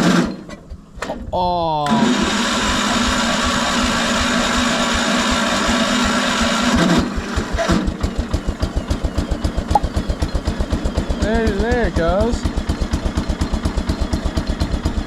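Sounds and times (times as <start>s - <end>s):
electric starter whining: 0.0s - 15.0s
single-cylinder engine putting: 0.0s - 15.0s.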